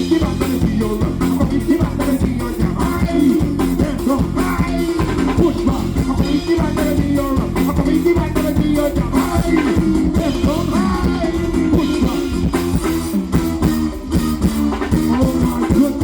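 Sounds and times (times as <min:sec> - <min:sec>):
person singing: 0:00.0 - 0:12.5, 0:15.0 - 0:16.0
live band playing dance music: 0:00.0 - 0:16.0.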